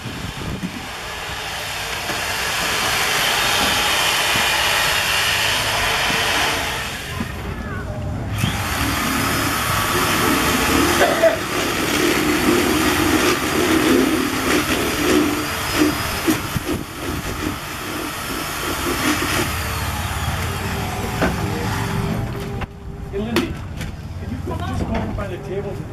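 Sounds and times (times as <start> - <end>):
power drill churning pumpkin pulp: 0.0 - 7.6, 8.3 - 22.1.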